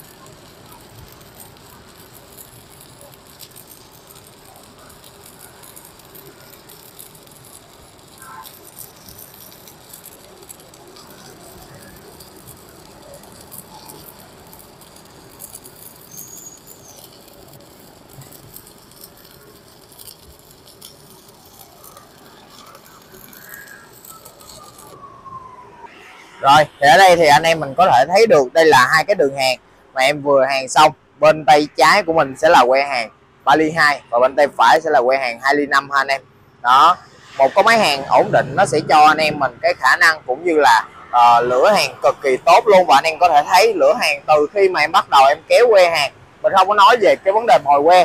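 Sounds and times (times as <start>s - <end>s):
welding arc crackling sizzle: 0.0s - 25.7s, 26.4s - 48.0s
sharp spatter crackles: 0.0s - 36.2s, 36.8s - 48.0s.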